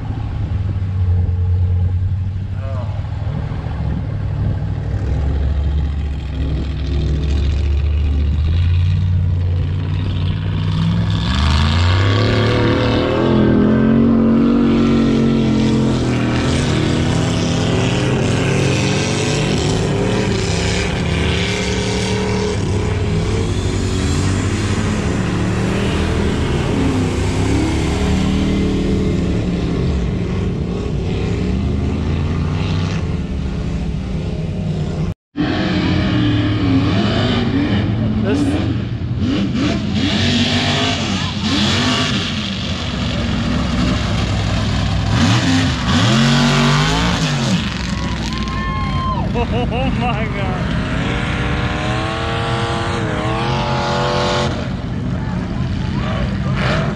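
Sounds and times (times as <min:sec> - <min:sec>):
off-road vehicle engine revving: 0:00.0 - 0:56.9.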